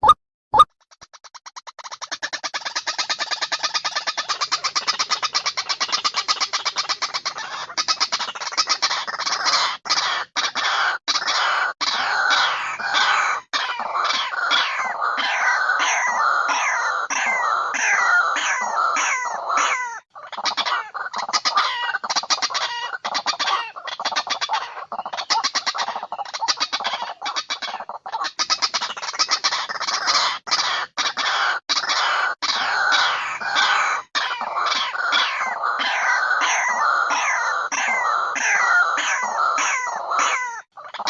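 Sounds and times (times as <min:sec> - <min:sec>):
birds chattering: 0:01.9 - 0:41.0.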